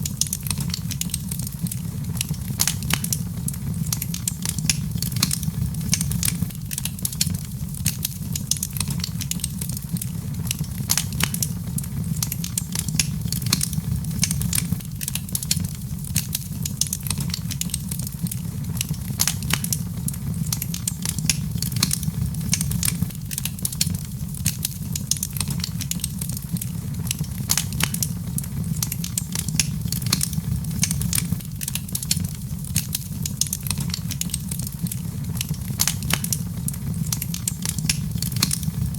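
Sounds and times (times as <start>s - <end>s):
low rumble of burning: 0.0s - 38.9s
wood fire crackling and popping: 0.0s - 38.9s.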